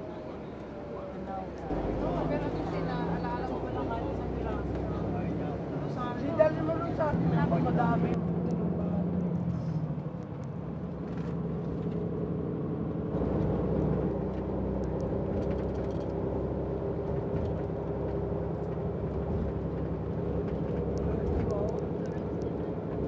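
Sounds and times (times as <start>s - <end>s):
coach engine and road noise drone: 0.0s - 23.0s.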